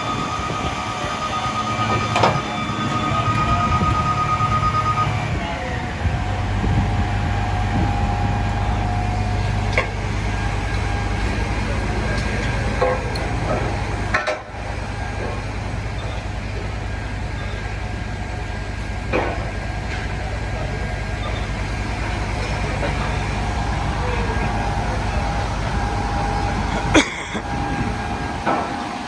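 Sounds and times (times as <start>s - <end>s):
street noise: 0.0s - 29.0s
truck engine idling: 0.0s - 29.0s.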